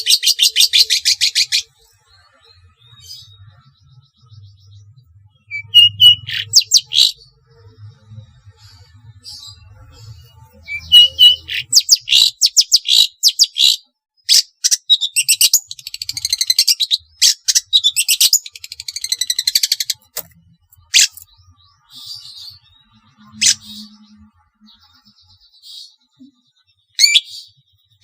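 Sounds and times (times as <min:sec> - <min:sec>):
bird singing harsh chattering notes: 0:00.0 - 0:07.4, 0:08.5 - 0:27.6.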